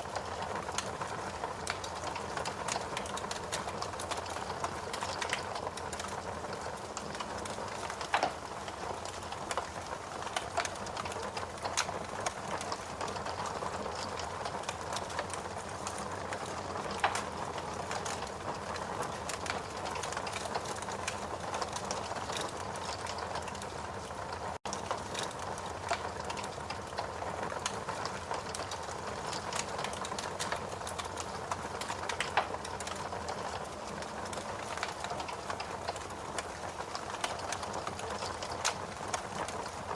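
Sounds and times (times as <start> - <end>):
steady rain: 0.0 - 39.9
wood crackling in fireplace: 0.0 - 39.9.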